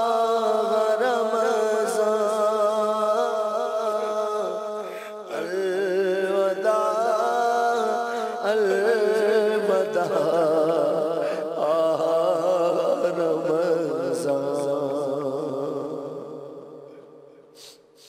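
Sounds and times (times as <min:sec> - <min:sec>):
man chanting: 0:00.0 - 0:18.0.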